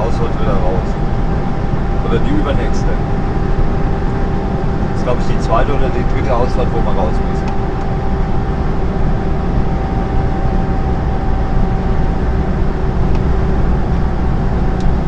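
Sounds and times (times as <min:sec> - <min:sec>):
faint steady whine: 0:00.0 - 0:15.0
lorry engine drone: 0:00.0 - 0:15.0
road noise: 0:00.0 - 0:15.0.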